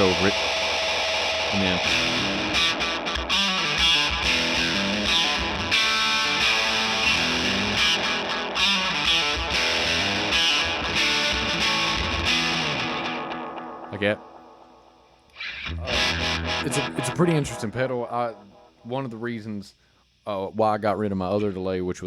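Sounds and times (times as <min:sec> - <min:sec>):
distorted electric guitar with echo: 0:00.0 - 0:18.9.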